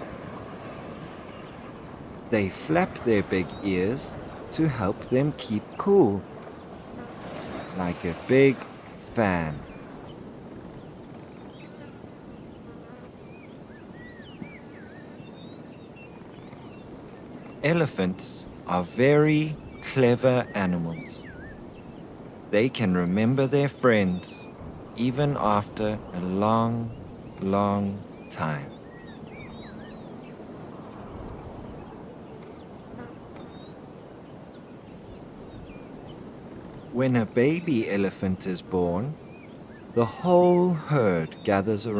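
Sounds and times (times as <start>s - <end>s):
low buzzing insect hum: 0.0s - 19.8s, 24.0s - 37.4s, 39.0s - 40.0s
bird chirps: 1.2s - 8.6s, 9.2s - 41.9s.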